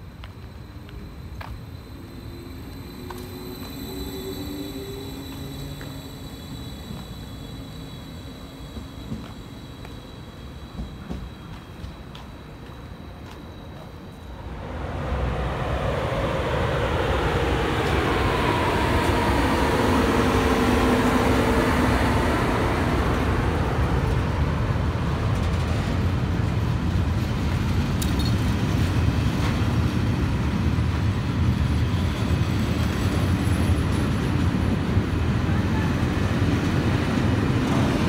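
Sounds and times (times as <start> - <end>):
locomotive humming: 0.5 - 38.0.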